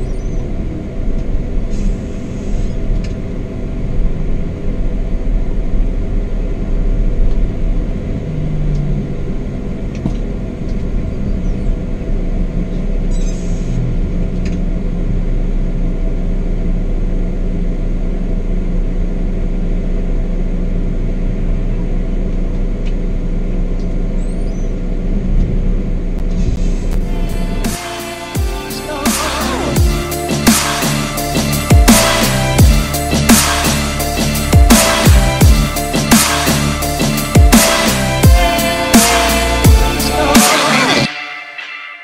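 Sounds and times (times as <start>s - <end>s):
coach engine and road rumble: 0.0s - 41.7s.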